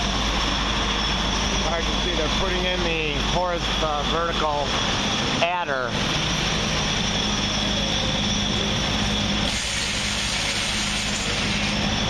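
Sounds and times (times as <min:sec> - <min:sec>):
loud machinery hum and whine: 0:00.0 - 0:12.0.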